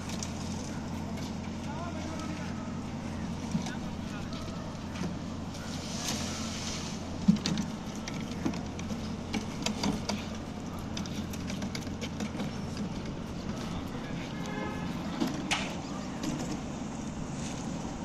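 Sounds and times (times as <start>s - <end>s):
machine engine droning: 0.0s - 18.0s
wheelbarrows knocking and clanking: 0.0s - 18.0s.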